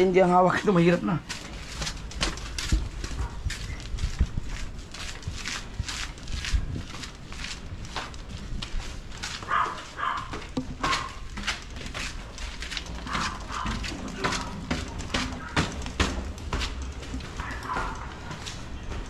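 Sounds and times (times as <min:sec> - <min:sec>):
footsteps: 0:00.0 - 0:19.0.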